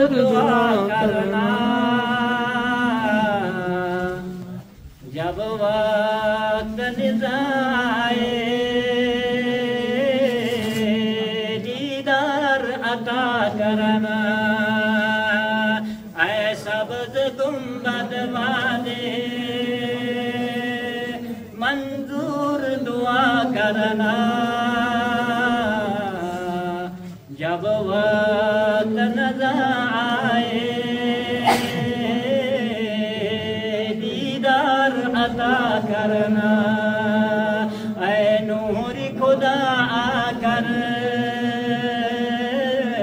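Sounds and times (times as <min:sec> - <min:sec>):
man chanting into a microphone: 0:00.0 - 0:43.0.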